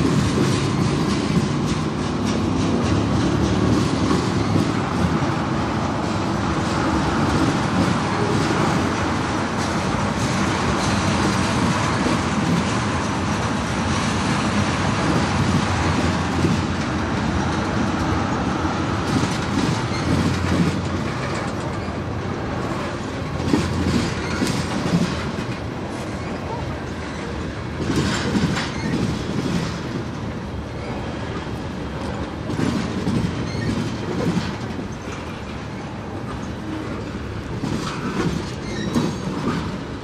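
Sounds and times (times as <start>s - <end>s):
freight train wheels clacking: 0.0s - 40.0s.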